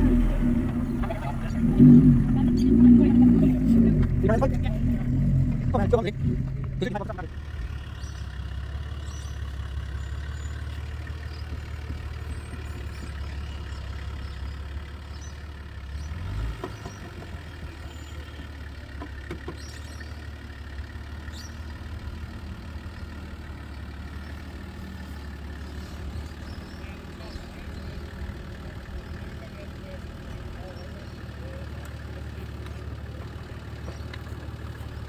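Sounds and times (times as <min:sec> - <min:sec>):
off-road engine running at low revs: 0:00.0 - 0:35.0.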